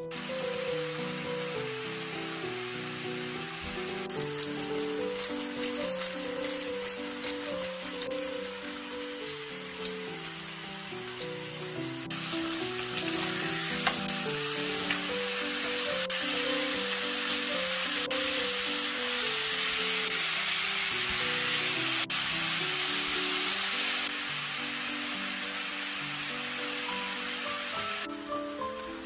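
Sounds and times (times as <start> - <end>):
pork sizzling in a frying pan: 0.0 - 29.0.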